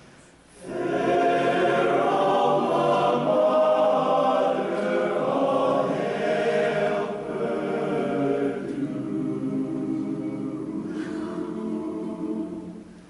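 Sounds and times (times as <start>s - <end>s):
choir singing slow chords: 0.5s - 13.0s.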